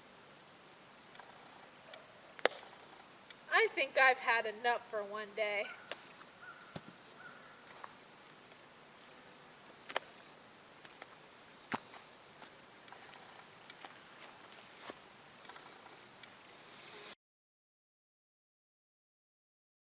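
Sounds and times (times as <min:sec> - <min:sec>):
crickets trilling: 0:00.0 - 0:17.1
insect chirping: 0:00.0 - 0:17.2.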